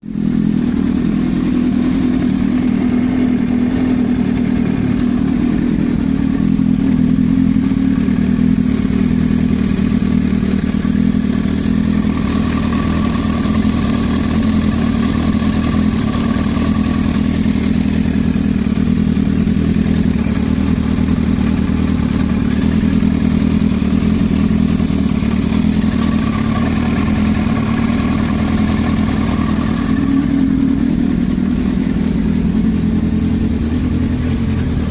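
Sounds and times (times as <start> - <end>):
engine knock: 0.0 - 34.9
motorcycle engine running: 0.0 - 34.9.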